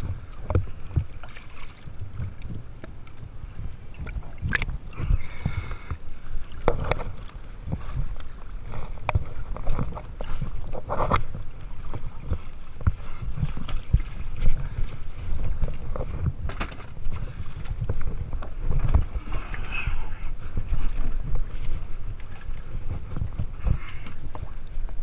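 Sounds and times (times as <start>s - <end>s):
water splashing and sloshing: 0.0s - 25.0s
wind buffeting microphone: 0.0s - 25.0s.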